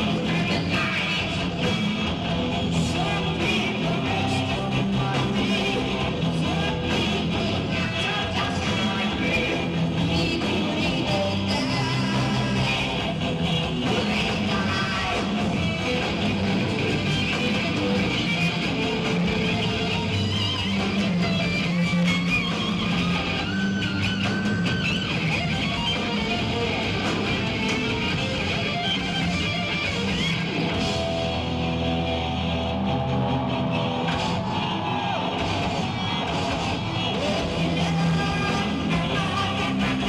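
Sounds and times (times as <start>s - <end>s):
heavy metal band playing: 0.0s - 40.0s.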